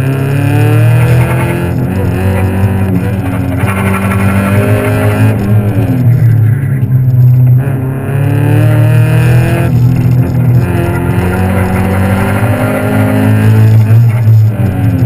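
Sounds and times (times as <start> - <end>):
car engine accelerating: 0.0 - 15.0
steady low drone: 0.0 - 15.0.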